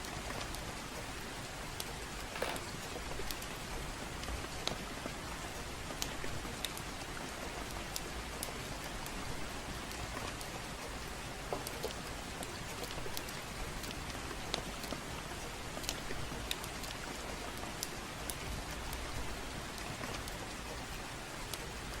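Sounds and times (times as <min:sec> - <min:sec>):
fireplace crackling and popping: 0:00.0 - 0:22.0
gentle rain: 0:00.0 - 0:22.0.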